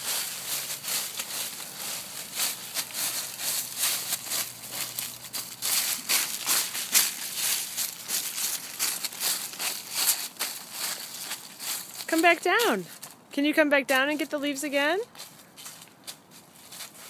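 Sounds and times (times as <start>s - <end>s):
dry leaves crunching underfoot: 0.0s - 13.2s, 14.1s - 17.0s.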